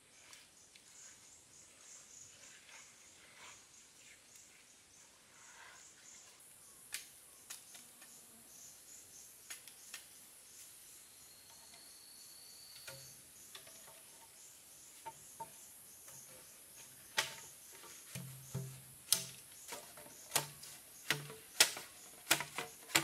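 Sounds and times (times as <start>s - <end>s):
insects buzzing and chirping: 0.0s - 23.0s.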